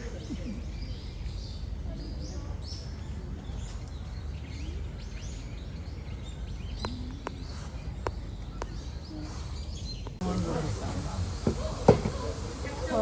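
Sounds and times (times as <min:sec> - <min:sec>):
low outdoor hum: 0:00.0 - 0:13.0
small birds chirping: 0:00.0 - 0:13.0.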